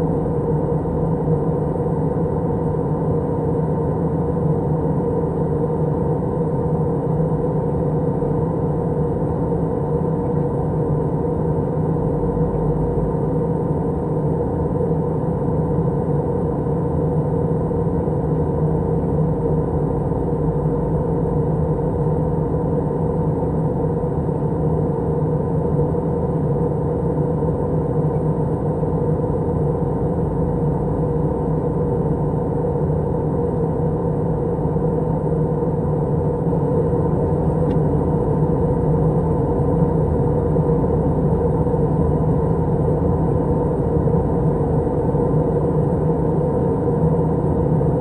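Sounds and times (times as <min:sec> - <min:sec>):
airliner cabin engine drone: 0:00.0 - 0:48.0.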